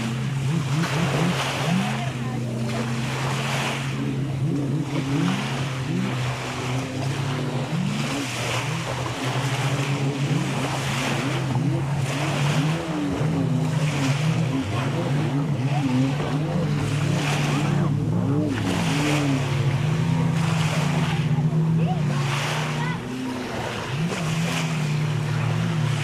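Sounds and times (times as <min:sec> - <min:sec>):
jet ski engine drone: 0:00.0 - 0:26.0
small waves breaking on sand: 0:00.0 - 0:26.0.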